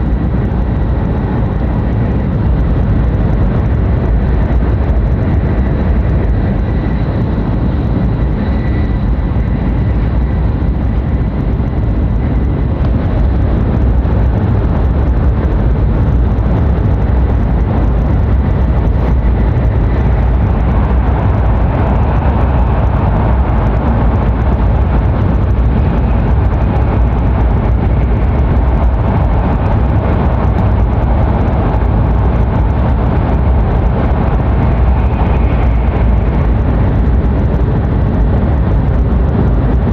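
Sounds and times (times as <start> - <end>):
rushing noise: 0.0 - 39.9
train cabin rumble: 0.0 - 39.9.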